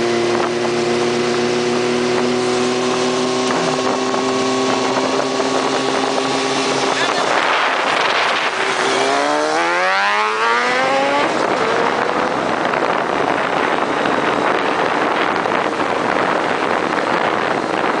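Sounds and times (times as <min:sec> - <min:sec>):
motorcycle engine accelerating: 0:00.0 - 0:18.0
wind on microphone: 0:00.0 - 0:18.0.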